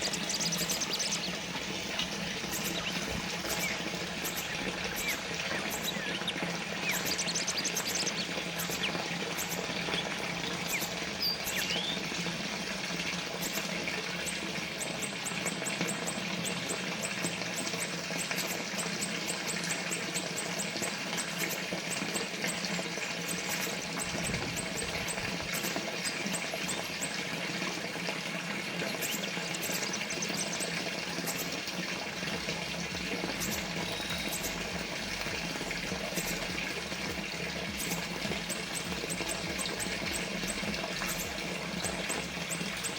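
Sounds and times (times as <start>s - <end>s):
fountain water trickling: 0.0s - 42.9s.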